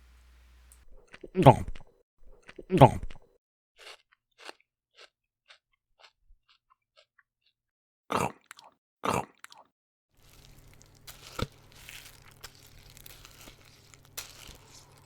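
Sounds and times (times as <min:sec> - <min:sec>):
crunchy food being chewed: 0:00.7 - 0:15.0.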